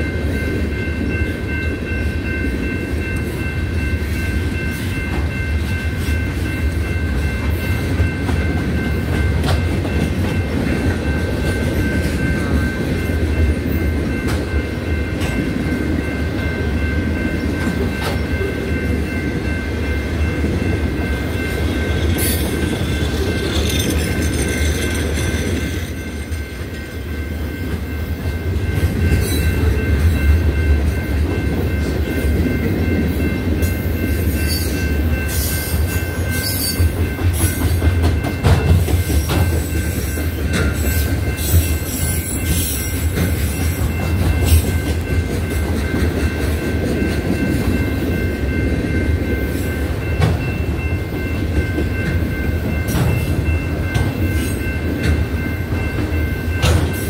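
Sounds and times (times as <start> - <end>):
clickety-clack of rail joints: 0.0 - 57.0
steel wheels rumbling on rail: 0.0 - 57.0.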